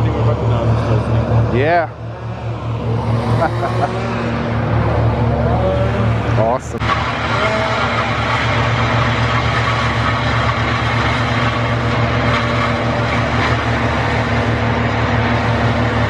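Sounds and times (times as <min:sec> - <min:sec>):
heavy engine humming: 0:00.0 - 0:16.0.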